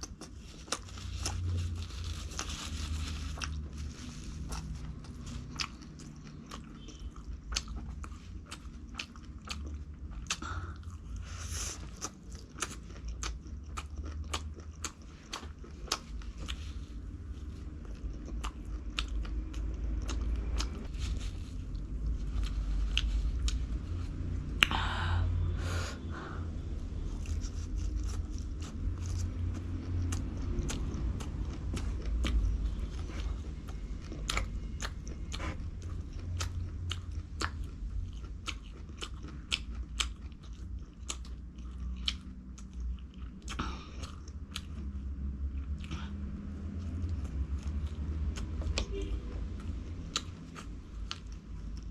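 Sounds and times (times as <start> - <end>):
chewing and crunching food: 0.0 - 25.0, 26.0 - 51.9.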